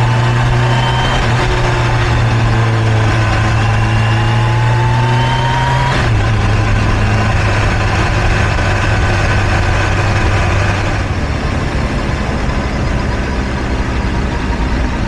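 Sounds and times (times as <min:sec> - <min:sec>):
motorcycle engine drone: 0:00.0 - 0:15.0
road noise: 0:00.0 - 0:15.0.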